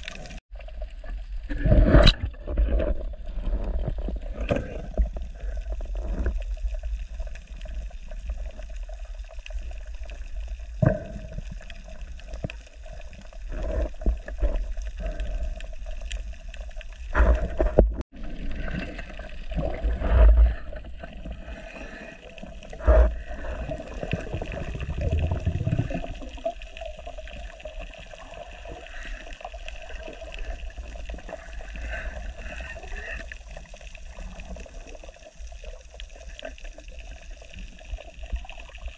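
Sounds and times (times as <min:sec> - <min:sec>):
underwater water rush: 0:00.0 - 0:38.9
water surges and knocks: 0:00.0 - 0:38.9.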